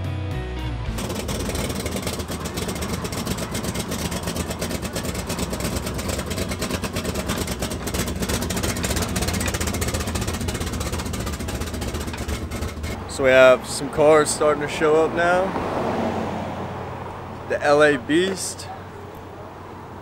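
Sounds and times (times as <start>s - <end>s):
car engine idling: 0.9s - 20.0s.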